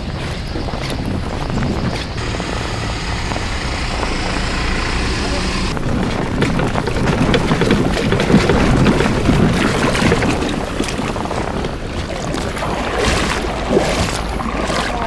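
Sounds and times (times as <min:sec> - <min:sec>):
water washing and splashing: 0:00.0 - 0:15.0
wind buffeting microphone: 0:00.0 - 0:15.0.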